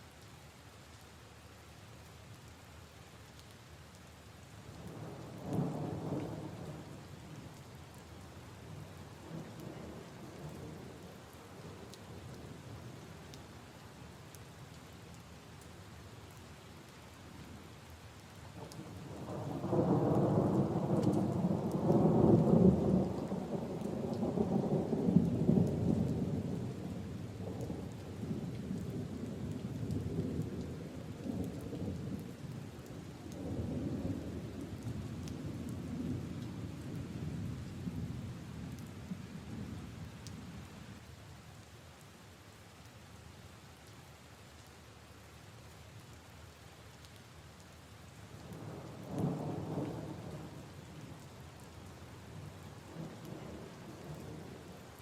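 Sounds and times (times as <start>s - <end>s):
rain on leaves and puddles: 0.0s - 55.0s.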